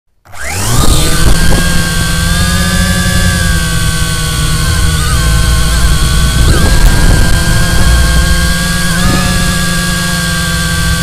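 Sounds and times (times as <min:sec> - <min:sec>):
drone motors whining: 0:00.2 - 0:11.0
wind rumble on microphone: 0:00.6 - 0:11.0.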